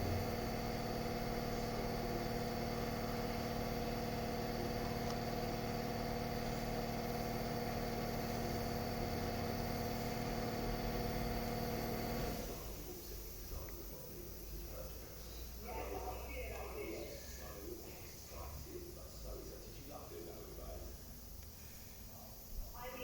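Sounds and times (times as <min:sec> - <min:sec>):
small electric motor humming: 0:00.0 - 0:23.0.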